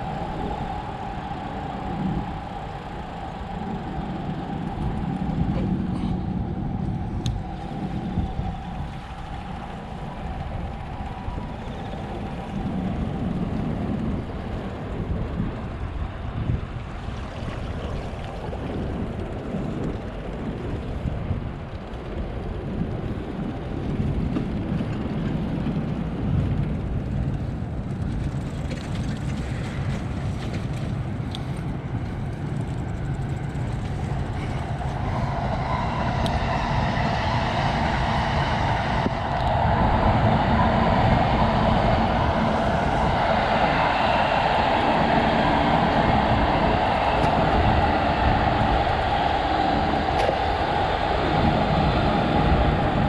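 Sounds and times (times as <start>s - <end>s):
vehicle humming: 0.0s - 53.0s
wind rumbling on microphone: 0.0s - 53.0s.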